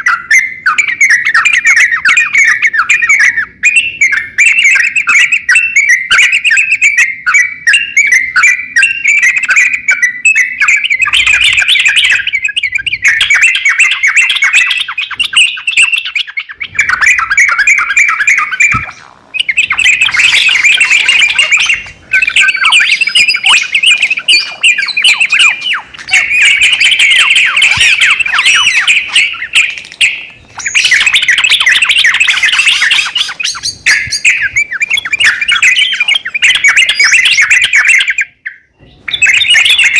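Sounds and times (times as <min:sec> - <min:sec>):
songbird chattering warble: 0:00.0 - 0:39.9.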